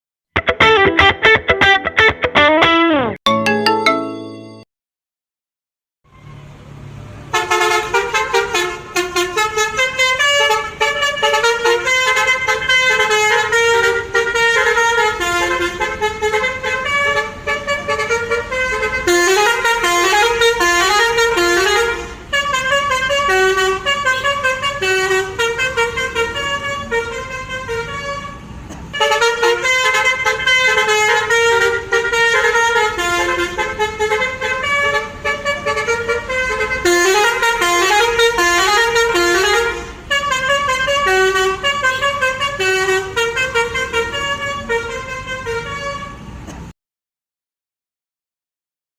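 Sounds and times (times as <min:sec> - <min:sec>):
truck multi-tone horn tune: 0:06.1 - 0:46.7.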